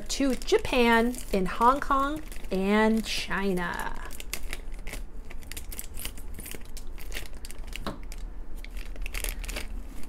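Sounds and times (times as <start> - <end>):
plastic crinkling and crackling: 0.0 - 10.0
scissors cutting plastic bag: 0.0 - 10.0.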